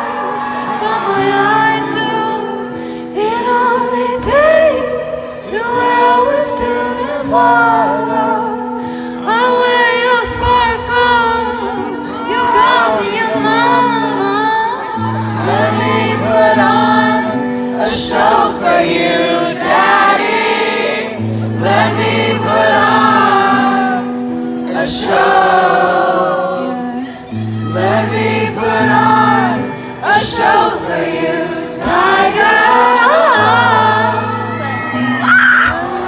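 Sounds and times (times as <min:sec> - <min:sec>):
woman singing slow song: 0:00.0 - 0:20.4, 0:21.3 - 0:36.0
electric guitar: 0:00.0 - 0:36.0.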